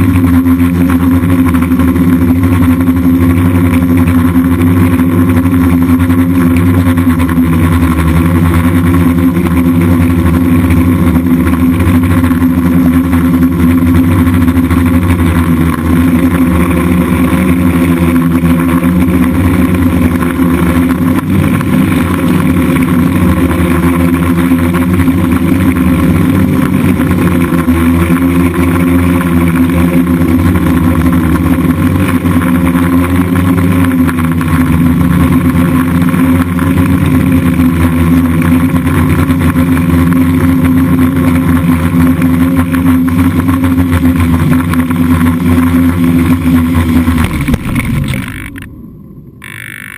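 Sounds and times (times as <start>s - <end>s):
drone propellers buzzing: 0.0s - 49.9s.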